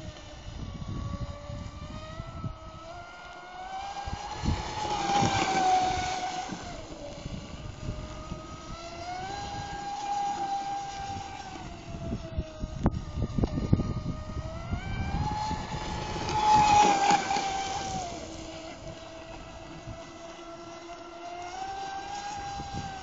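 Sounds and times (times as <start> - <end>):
rc boat motor whine: 0.0 - 23.0.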